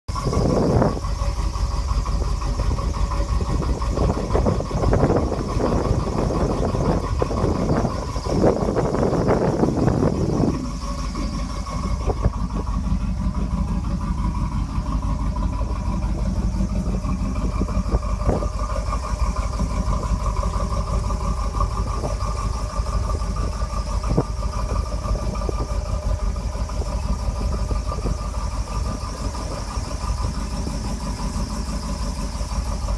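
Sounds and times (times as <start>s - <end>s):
car engine idling: 0.1s - 32.9s.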